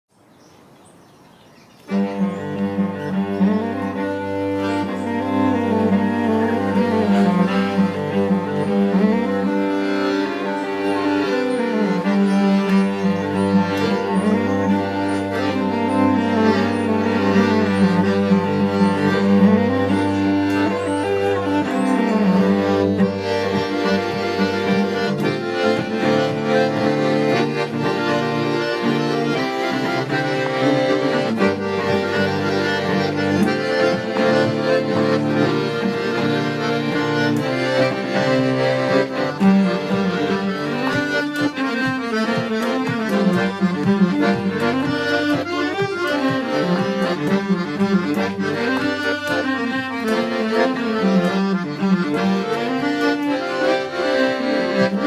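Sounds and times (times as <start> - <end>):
accordion playing folk tune: 1.8 - 55.0
low held bass: 2.0 - 55.0.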